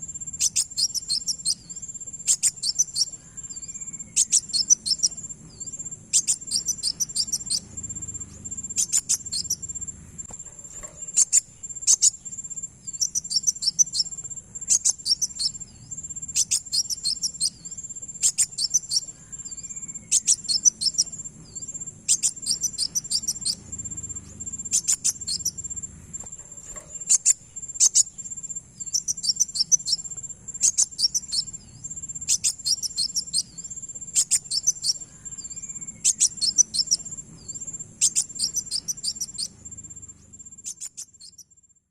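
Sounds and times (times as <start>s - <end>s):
bird high chips and trills: 0.0s - 41.5s.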